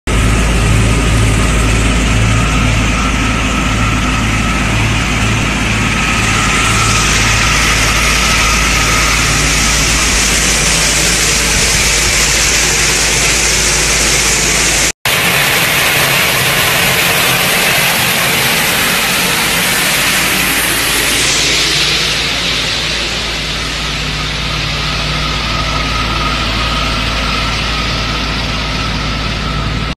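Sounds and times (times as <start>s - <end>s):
pulsing beat: 0.1s - 29.9s
truck engine and water pump running: 0.1s - 29.9s
high-pressure water hiss: 4.6s - 28.6s.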